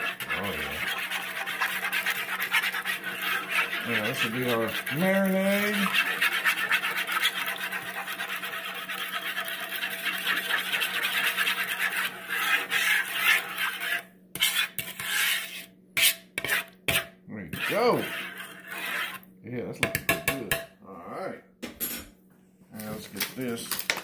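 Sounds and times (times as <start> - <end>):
spoon stirring in a bowl: 0.0 - 20.7.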